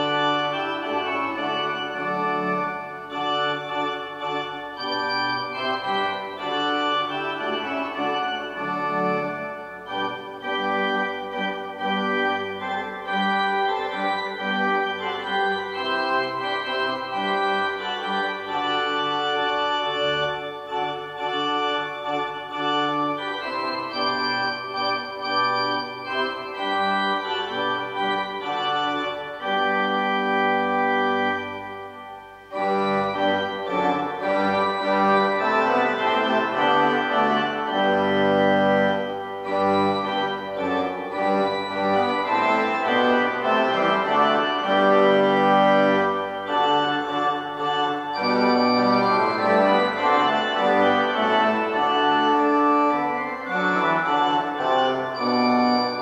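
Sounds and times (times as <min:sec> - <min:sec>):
organ playing held chords: 0:00.0 - 0:56.0.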